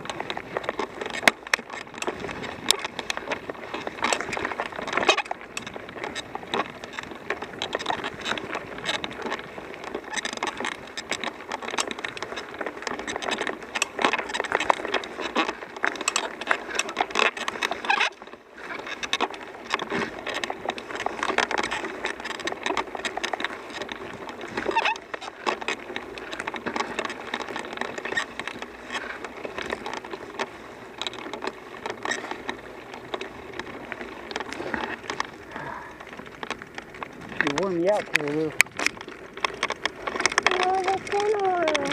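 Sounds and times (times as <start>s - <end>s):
bicycle tyres crunching on trail: 0.0s - 41.9s.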